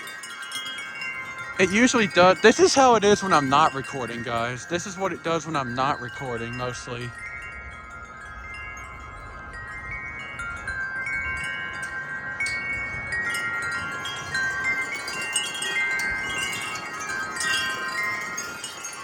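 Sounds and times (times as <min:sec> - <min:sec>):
wind chimes ringing: 0:00.0 - 0:19.0
low wind rumble: 0:00.3 - 0:18.9.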